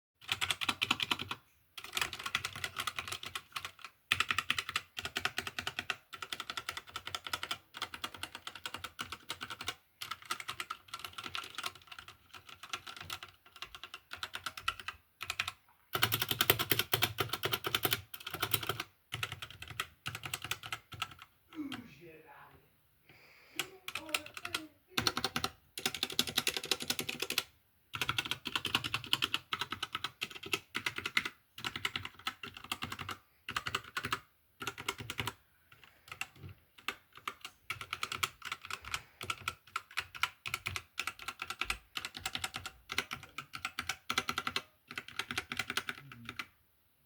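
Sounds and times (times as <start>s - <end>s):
fast keyboard typing: 0.2s - 21.7s, 23.6s - 46.5s.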